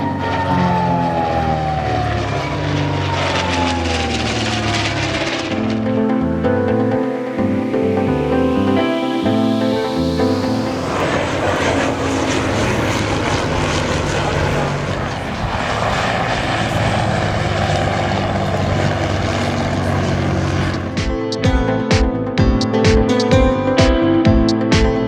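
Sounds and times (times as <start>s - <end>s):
background music: 0.0s - 14.6s, 17.0s - 25.0s
propeller plane engine drone: 0.0s - 22.4s.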